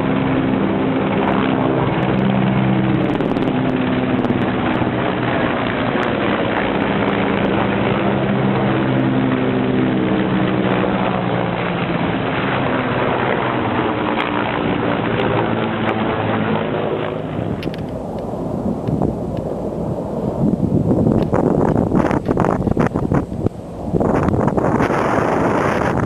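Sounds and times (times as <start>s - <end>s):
helicopter rotor droning: 0.0s - 26.0s
wind blowing on microphone: 0.0s - 26.0s.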